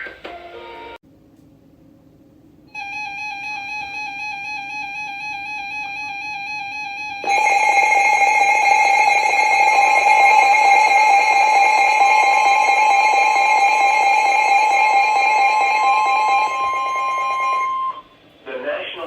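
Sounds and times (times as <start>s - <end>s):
wavering electronic alarm tone: 2.7s - 18.1s
steady alert tone: 2.8s - 18.1s.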